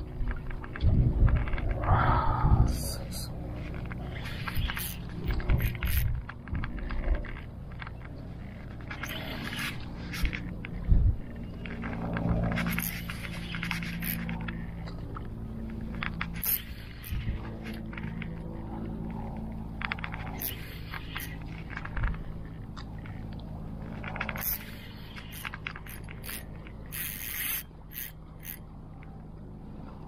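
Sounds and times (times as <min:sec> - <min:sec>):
low steady hum: 0:00.0 - 0:30.0
scraping and clicking: 0:03.5 - 0:18.4, 0:19.8 - 0:29.1.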